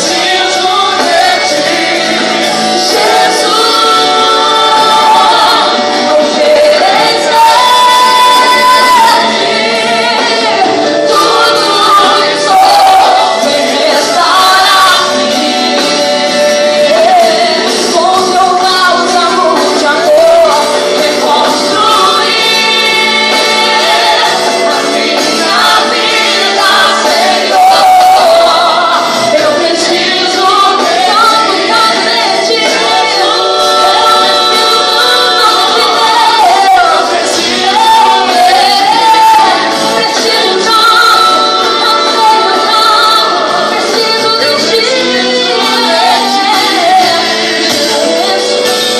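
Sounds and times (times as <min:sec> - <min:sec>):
band accompaniment: 0:00.0 - 0:48.9
woman leading worship singing: 0:00.0 - 0:48.9.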